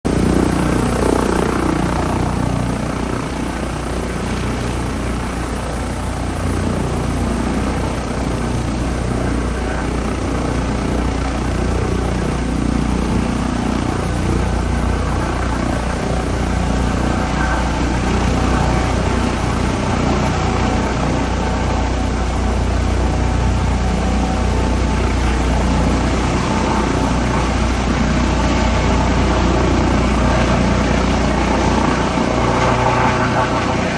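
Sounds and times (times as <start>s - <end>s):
helicopter running: 0.0s - 33.9s.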